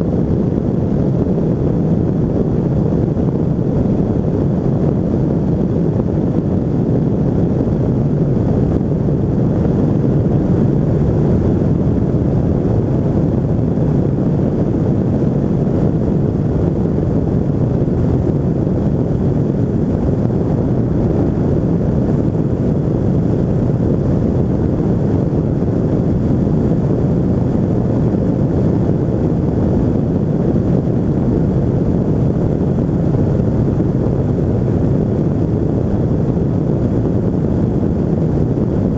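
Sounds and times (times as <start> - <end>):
aircraft engine drone: 0.0 - 38.9
wind buffeting microphone: 0.0 - 38.9
wind rush: 0.0 - 38.9.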